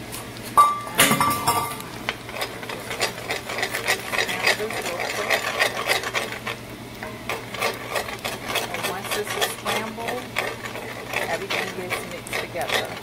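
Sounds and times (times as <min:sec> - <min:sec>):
spatula scraping skillet: 0:01.1 - 0:13.0.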